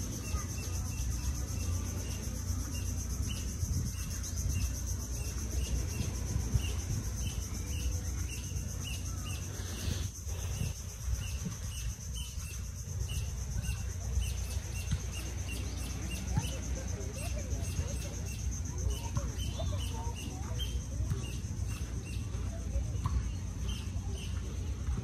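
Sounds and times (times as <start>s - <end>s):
insects droning and chirping: 0.0s - 25.0s.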